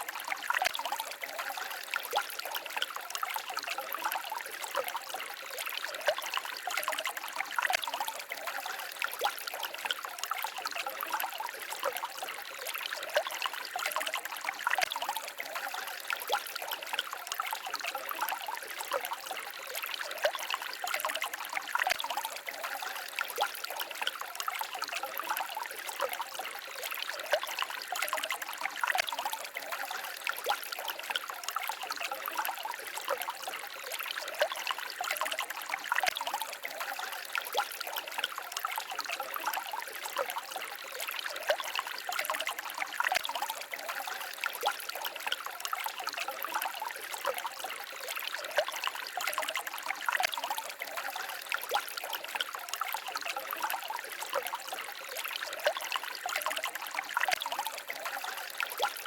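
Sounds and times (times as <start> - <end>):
forest stream babbling: 0.0 - 59.0.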